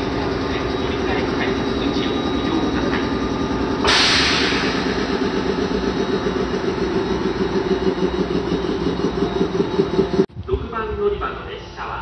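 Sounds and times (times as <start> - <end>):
electric train humming: 0.0 - 10.3.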